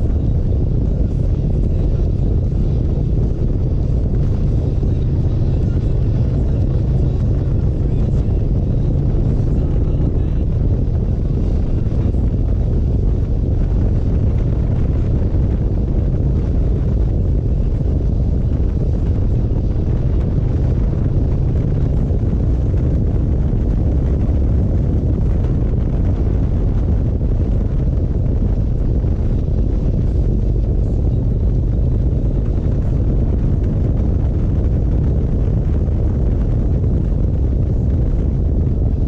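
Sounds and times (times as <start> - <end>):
motorcycle engine running: 0.0 - 39.0
wind on microphone: 0.0 - 39.0.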